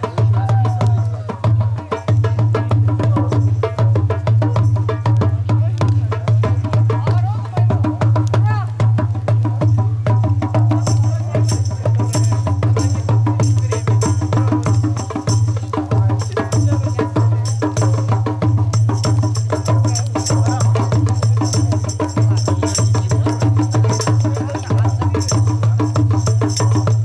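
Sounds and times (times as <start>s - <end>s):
music with fast drumming: 0.0s - 27.0s.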